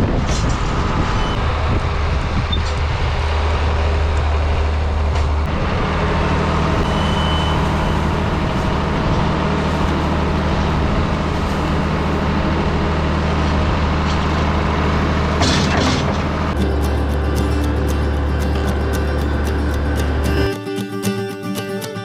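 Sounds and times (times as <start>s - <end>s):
tractor diesel engine running: 0.0s - 20.5s.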